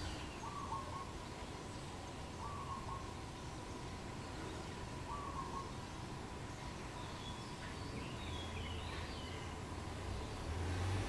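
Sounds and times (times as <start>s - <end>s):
faint bird chirps: 0.0s - 10.5s.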